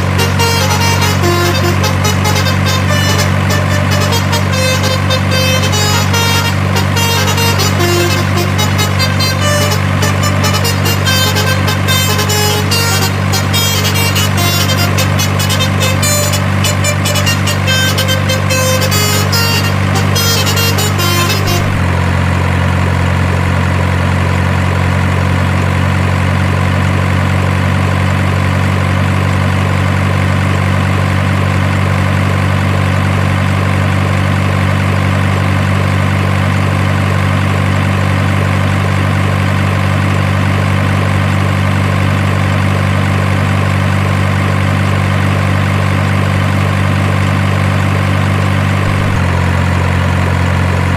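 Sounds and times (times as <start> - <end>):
diesel truck engine idling: 0.0 - 50.9.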